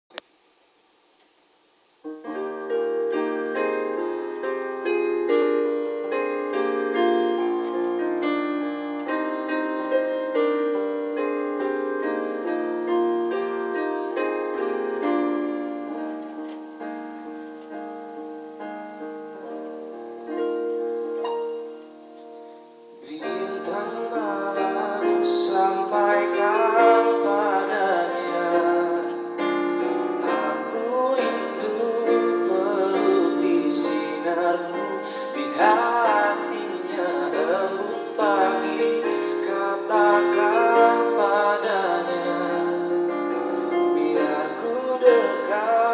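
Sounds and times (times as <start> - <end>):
keyboard playing piano chords: 2.0 - 45.9
person singing: 2.2 - 16.0, 23.0 - 45.9.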